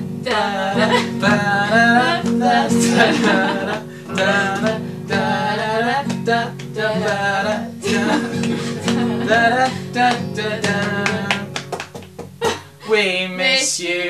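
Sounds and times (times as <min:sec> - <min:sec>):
strummed acoustic guitar: 0:00.0 - 0:14.0
person singing: 0:00.2 - 0:11.6, 0:12.4 - 0:14.0.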